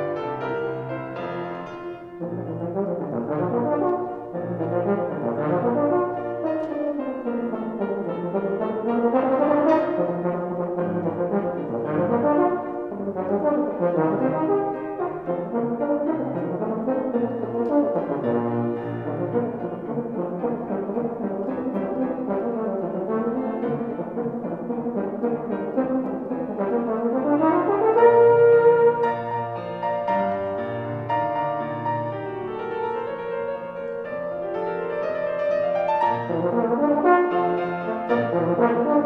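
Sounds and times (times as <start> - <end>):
euphonium playing fast notes: 0.0 - 39.0
piano accompaniment: 0.0 - 39.0.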